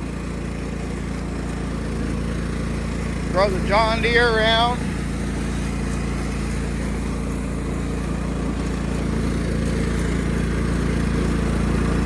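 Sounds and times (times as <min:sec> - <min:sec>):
riding mower engine running: 0:00.0 - 0:12.0.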